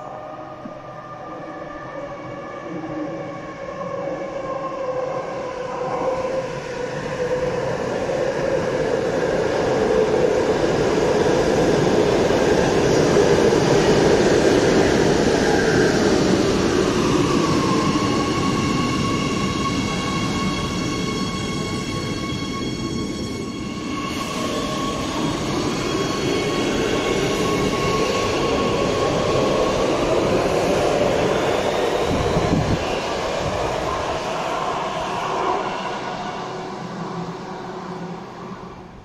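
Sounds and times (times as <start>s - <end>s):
train pulling into station: 0.0s - 39.0s.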